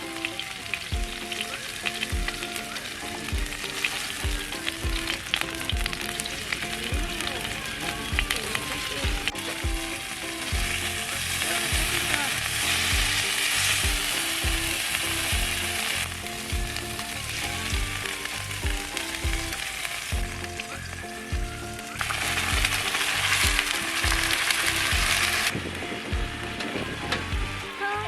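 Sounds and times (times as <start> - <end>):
food sizzling in a pan: 0.0 - 26.6
background music with beat: 0.0 - 28.0.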